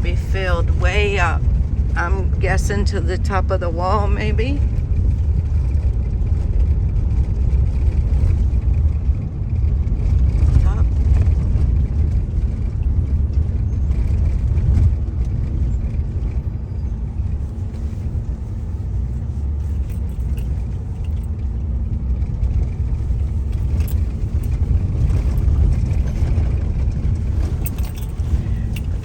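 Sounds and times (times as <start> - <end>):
car engine and tyres rumbling: 0.0 - 29.0
faint steady hum: 0.0 - 29.0.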